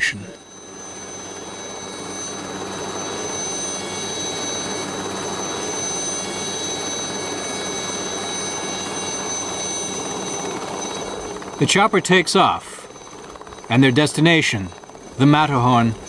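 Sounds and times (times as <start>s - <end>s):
helicopter turbine whine: 0.0s - 16.0s.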